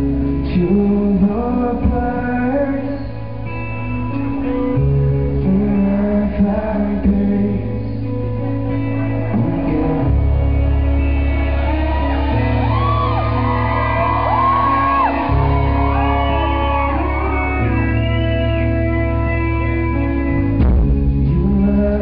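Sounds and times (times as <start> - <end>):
bass notes: 0.0 - 22.0
electric guitars: 0.0 - 22.0.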